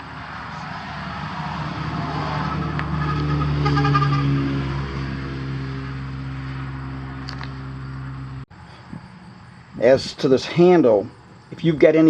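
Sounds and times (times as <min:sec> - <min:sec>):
engine-like mechanical drone: 0:00.0 - 0:09.7.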